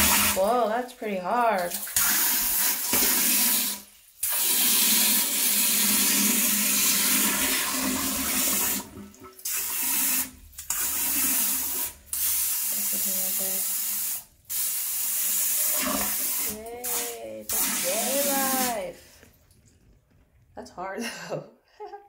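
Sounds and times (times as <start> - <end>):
water jet spraying into toilet: 0.0 - 0.5, 1.7 - 19.2.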